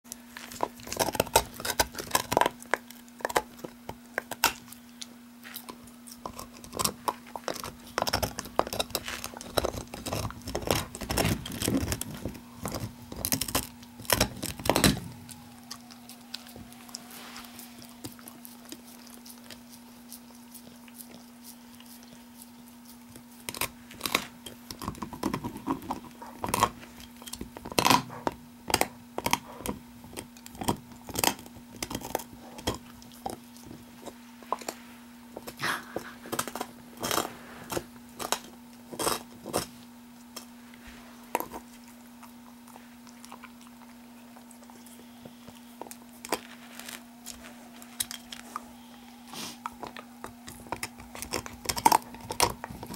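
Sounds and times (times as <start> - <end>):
dog gnawing on bone: 0.1 - 52.9.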